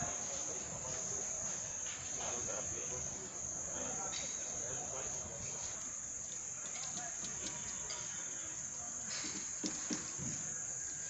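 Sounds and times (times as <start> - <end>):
faint outdoor background noise: 0.0 - 11.0
insects chirring: 0.0 - 11.0.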